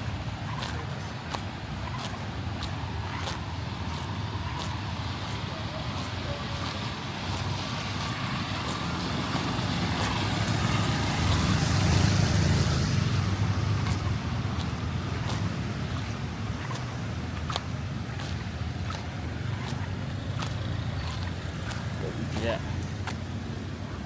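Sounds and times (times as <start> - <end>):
vehicle passing on wet road: 0.0 - 24.0.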